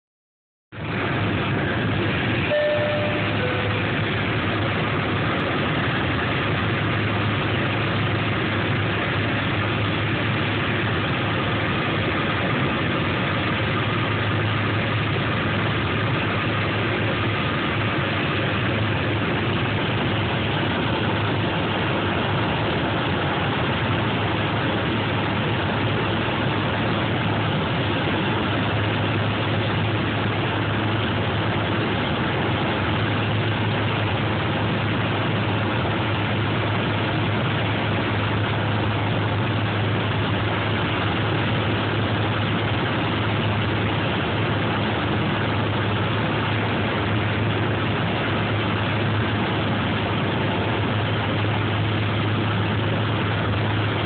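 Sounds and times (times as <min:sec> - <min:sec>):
aircraft engine drone: 0:00.8 - 0:54.0
rushing air in cabin: 0:00.8 - 0:54.0.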